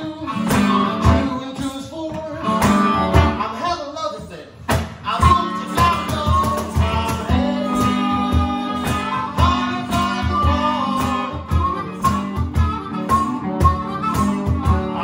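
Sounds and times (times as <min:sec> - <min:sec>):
box drum beat: 0:00.0 - 0:03.4, 0:04.6 - 0:15.0
electric guitar: 0:00.0 - 0:03.6, 0:04.6 - 0:15.0
harmonica: 0:00.0 - 0:03.9, 0:05.1 - 0:15.0
man singing: 0:00.0 - 0:13.2, 0:14.0 - 0:15.0.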